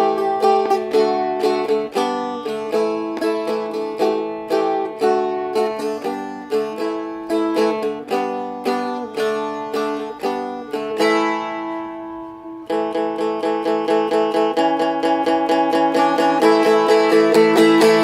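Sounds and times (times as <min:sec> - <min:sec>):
dulcimer strumming chords: 0:00.0 - 0:18.0.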